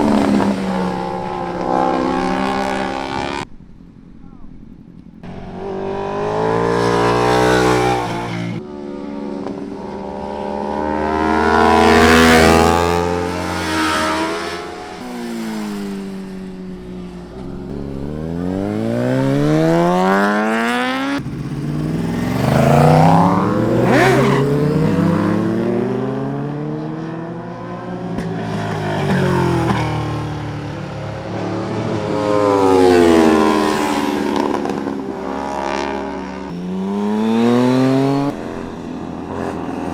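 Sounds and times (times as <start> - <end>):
motorcycle engine revving: 0.0 - 3.6, 5.2 - 39.9.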